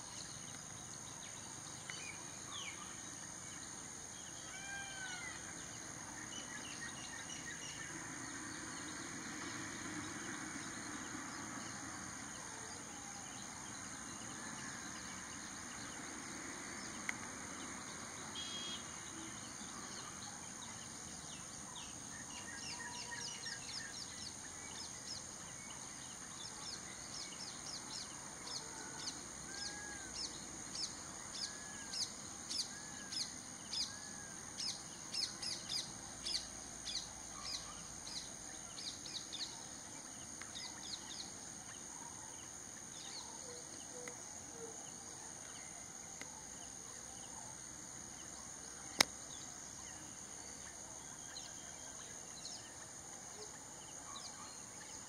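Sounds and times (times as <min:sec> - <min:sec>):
high insect drone: 0:00.0 - 0:55.0.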